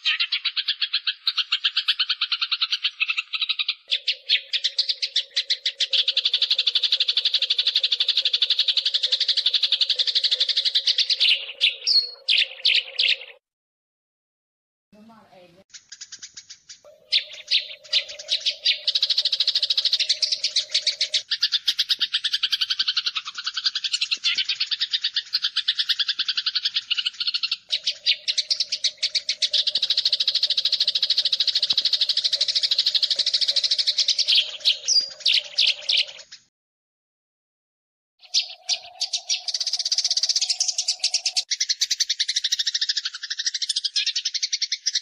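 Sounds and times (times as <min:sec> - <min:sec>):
sparrows chirping harshly: 0:00.0 - 0:13.4, 0:15.0 - 0:36.5, 0:38.2 - 0:45.0.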